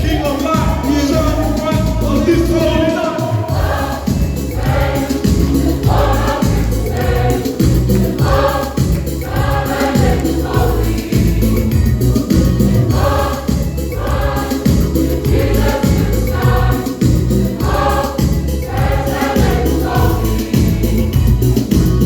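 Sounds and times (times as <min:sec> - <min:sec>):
backing music with beat and bass: 0:00.0 - 0:22.0
choir singing: 0:00.0 - 0:22.0.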